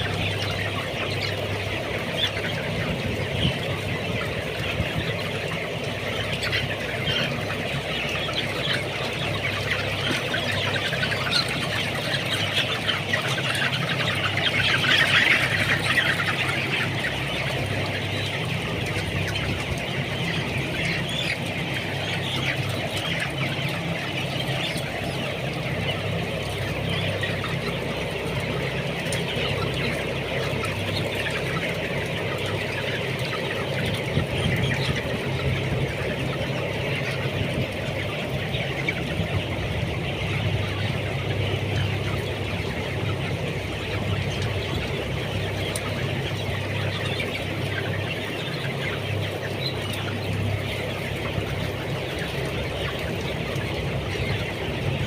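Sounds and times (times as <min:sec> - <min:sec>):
chickens clucking and peeping: 0:00.0 - 0:55.0.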